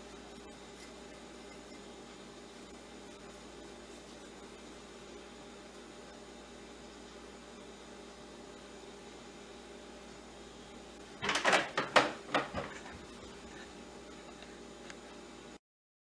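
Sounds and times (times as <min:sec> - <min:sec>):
low room hum: 0:00.0 - 0:15.6.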